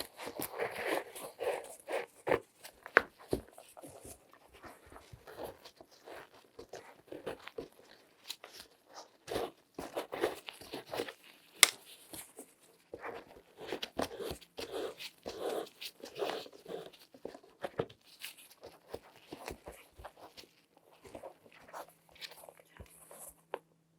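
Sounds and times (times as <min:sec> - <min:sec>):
gloved hands rustling and scraping: 0:00.0 - 0:23.8.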